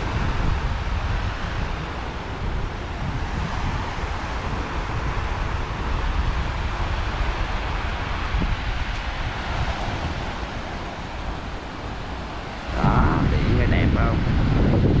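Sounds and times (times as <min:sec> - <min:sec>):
small waves breaking on sand: 0:00.0 - 0:15.0
wind buffeting microphone: 0:00.0 - 0:15.0.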